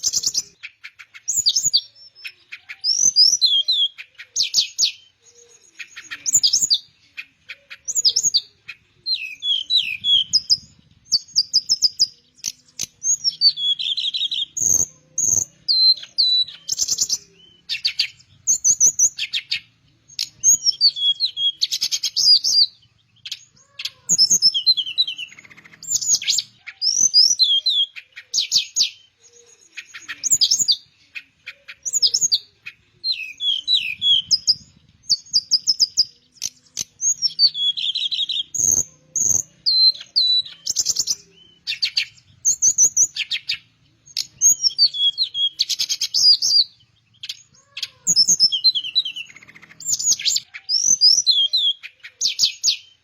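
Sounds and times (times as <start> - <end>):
flycatcher singing: 0.0 - 53.0.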